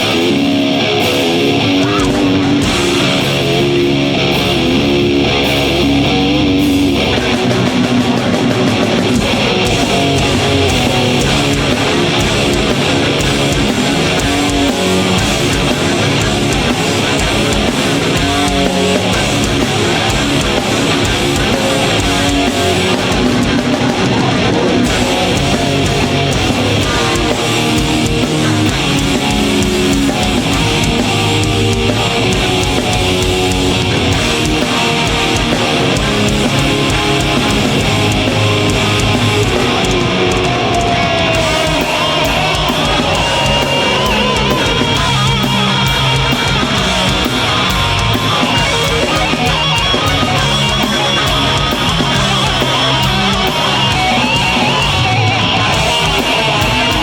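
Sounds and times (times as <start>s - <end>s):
metal band playing: 0.0s - 57.0s.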